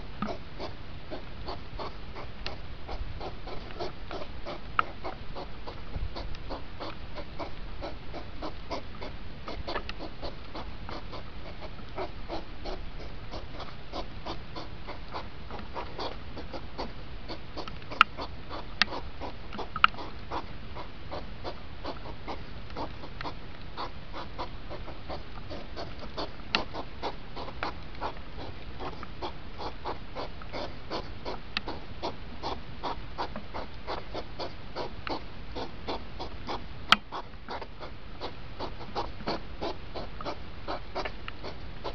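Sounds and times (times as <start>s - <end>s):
hedgehogs huffing: 0.2s - 41.9s.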